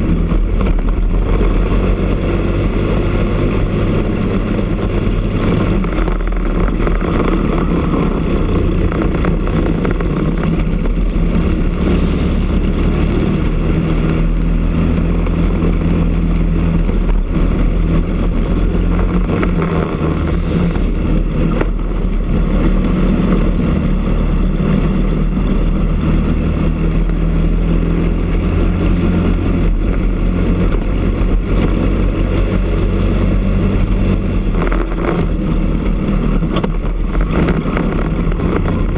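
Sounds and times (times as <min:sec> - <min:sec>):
kart engine at high revs: 0:00.0 - 0:38.9.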